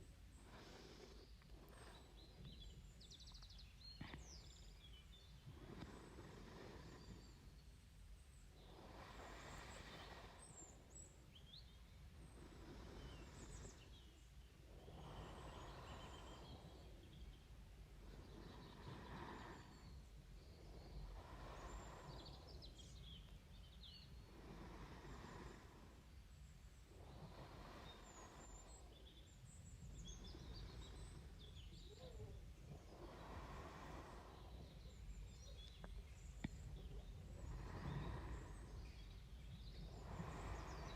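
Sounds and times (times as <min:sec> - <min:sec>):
distant birds chirping: 0:00.0 - 0:40.9
faint low background rumble: 0:00.0 - 0:40.9
soft slow breathing: 0:00.0 - 0:40.9.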